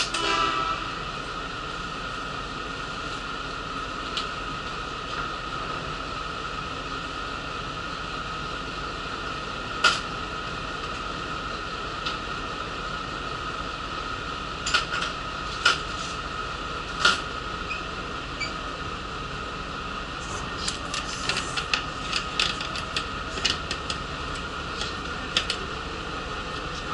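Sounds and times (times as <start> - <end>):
bus cabin hum: 0.0 - 26.9.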